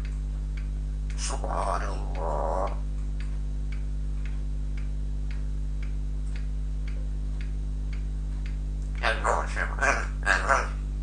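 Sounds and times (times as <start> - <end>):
steady ticking: 0.0 - 9.2
low electrical hum: 0.0 - 11.0.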